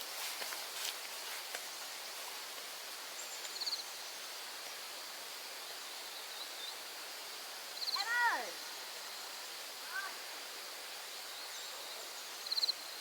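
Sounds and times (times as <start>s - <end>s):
steady soft hiss: 0.0s - 13.0s.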